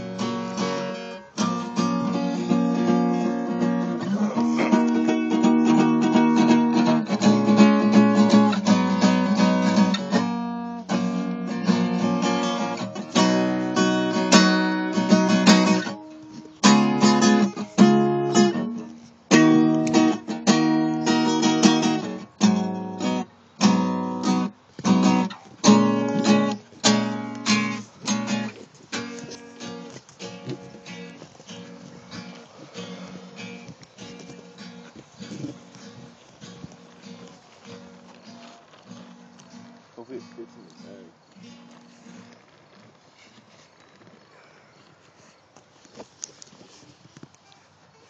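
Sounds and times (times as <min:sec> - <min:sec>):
acoustic guitar strumming: 0:00.0 - 0:42.5.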